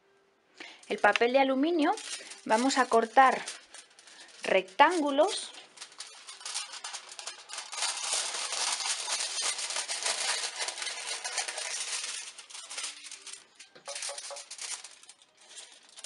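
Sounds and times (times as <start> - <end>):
aluminium foil crinkling: 0.6 - 16.0
scissors cutting foil: 0.9 - 16.0.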